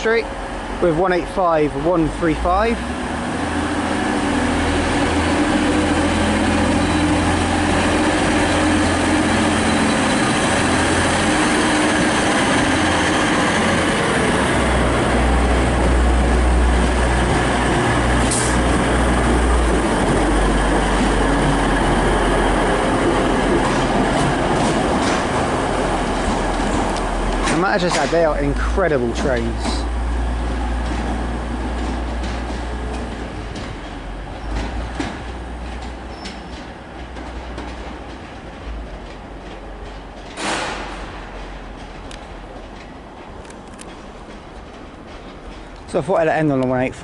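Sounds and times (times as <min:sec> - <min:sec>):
diesel train engine drone: 0:00.0 - 0:47.0
rumble of moving train: 0:00.0 - 0:47.0.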